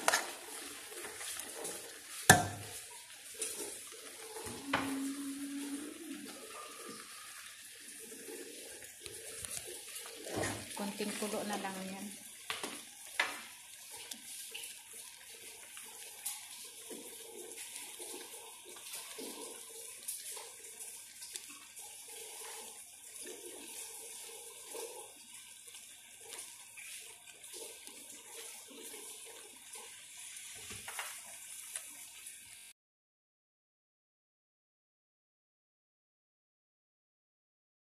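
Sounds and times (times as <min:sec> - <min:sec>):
stew bubbling in a pot: 0:00.0 - 0:32.7.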